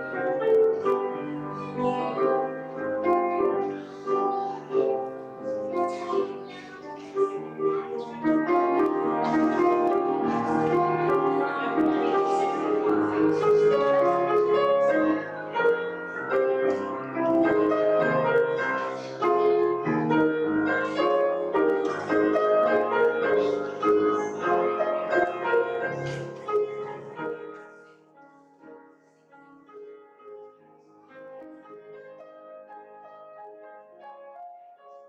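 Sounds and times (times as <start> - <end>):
piano playing: 0.0 - 35.0.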